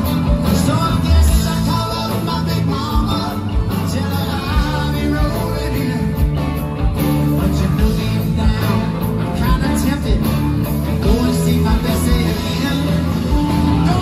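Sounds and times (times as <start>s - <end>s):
guitar: 0.0s - 14.0s
person singing: 0.0s - 14.0s
rock and roll music: 0.0s - 14.0s.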